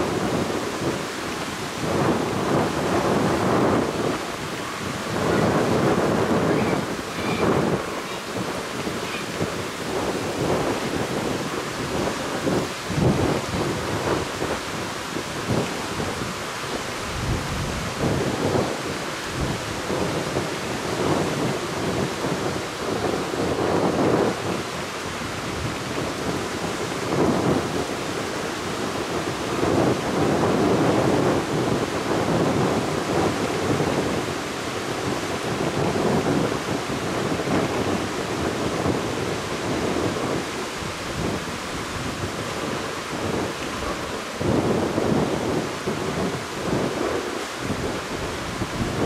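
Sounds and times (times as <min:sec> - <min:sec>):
waves washing onto beach: 0:00.0 - 0:49.0.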